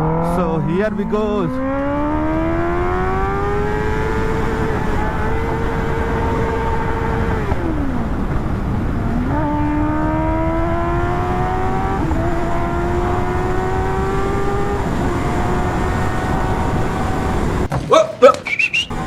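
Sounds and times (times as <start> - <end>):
motorcycle engine accelerating: 0.0 - 17.8
wind rumble: 0.0 - 17.8.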